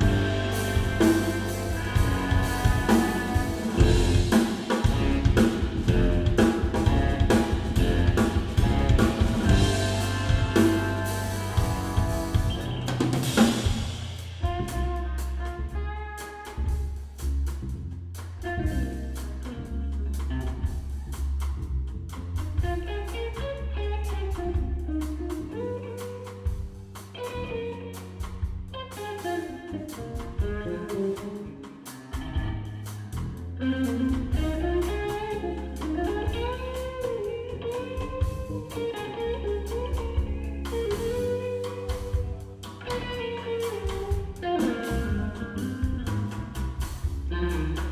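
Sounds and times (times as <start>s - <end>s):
electric guitar lead: 0.0s - 17.3s, 18.4s - 21.2s, 22.2s - 47.9s
drum kit: 0.0s - 47.9s
electric bass: 0.0s - 47.9s.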